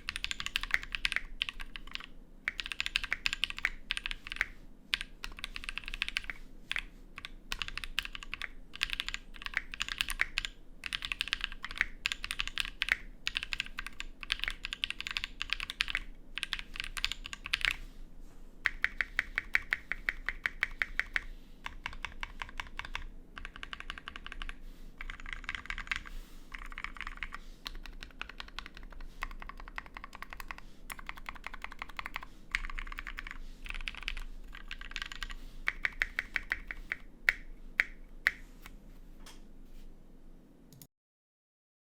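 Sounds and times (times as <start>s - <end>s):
mechanical keyboard typing: 0.0s - 17.8s, 18.6s - 38.4s.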